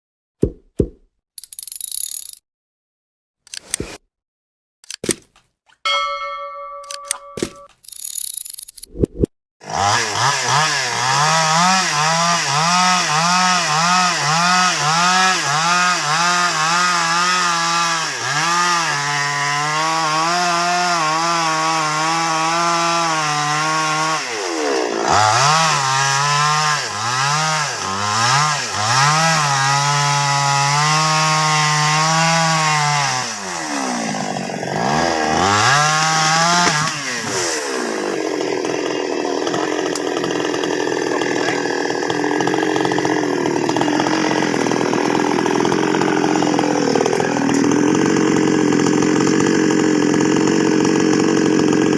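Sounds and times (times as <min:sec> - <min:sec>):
chainsaw cutting wood: 0:09.6 - 0:51.9.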